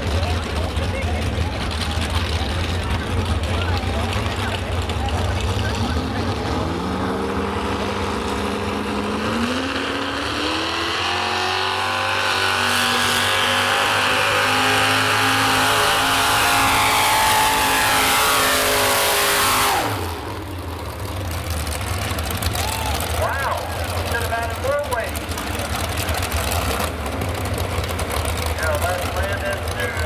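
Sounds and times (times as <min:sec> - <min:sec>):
tractor engine revving under load: 0:01.4 - 0:30.0.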